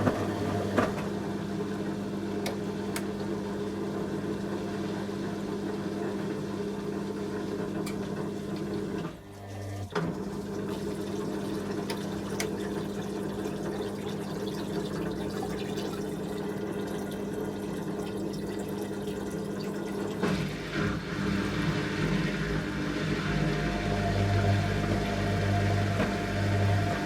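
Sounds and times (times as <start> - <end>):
washing machine drain pump humming: 0.0 - 27.0.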